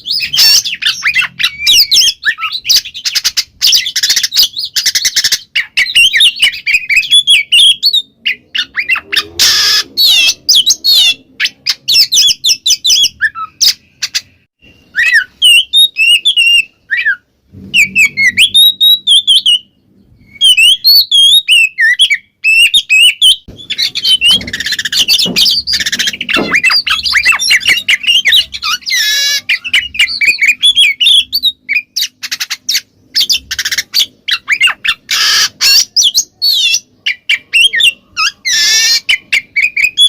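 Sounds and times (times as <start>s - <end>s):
bird singing whistled notes: 0.0s - 40.0s
harsh rasping bird calls: 0.0s - 40.0s.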